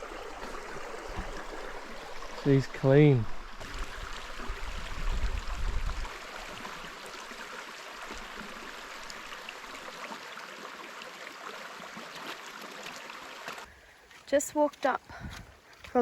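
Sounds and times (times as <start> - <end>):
creek water rushing: 0.0 - 14.2.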